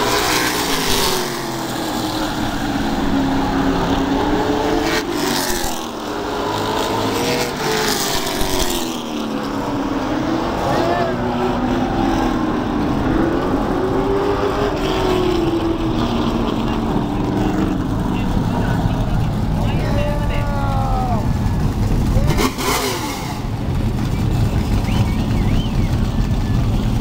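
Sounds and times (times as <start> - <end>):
race car engines: 0.0 - 27.0.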